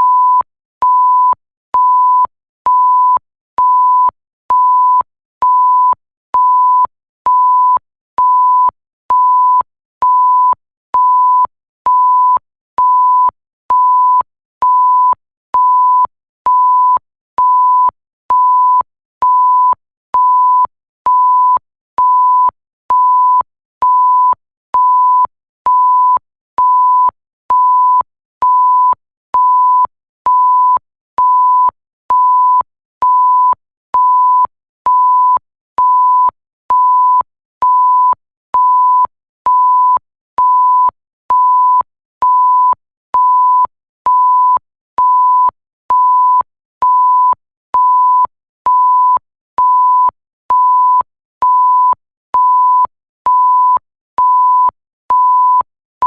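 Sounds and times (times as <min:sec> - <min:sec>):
censor bleep tone: 0:00.0 - 0:55.7
click of beep: 0:00.0 - 0:55.7.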